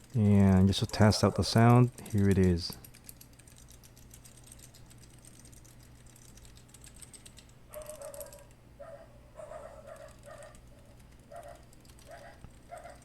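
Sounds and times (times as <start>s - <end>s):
keyboard typing clicks: 0.0s - 8.6s, 9.8s - 13.0s.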